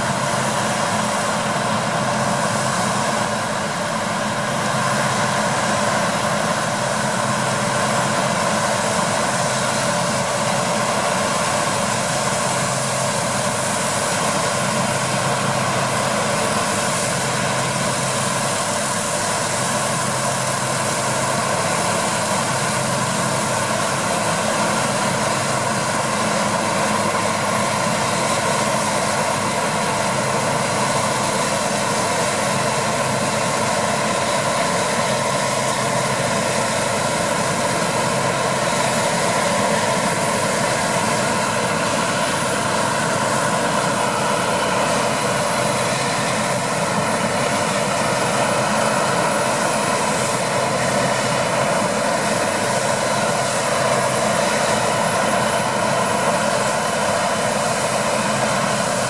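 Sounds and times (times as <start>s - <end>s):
combine harvester drone: 0.0s - 59.0s.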